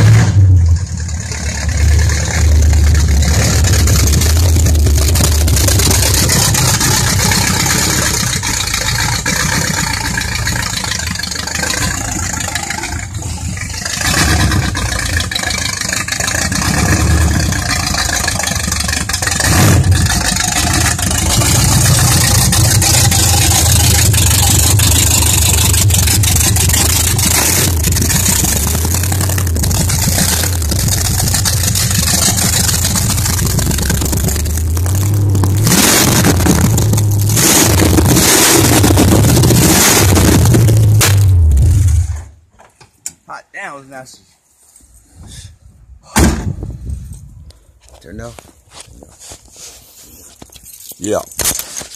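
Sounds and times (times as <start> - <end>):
car engine running and revving: 0.0 - 42.1.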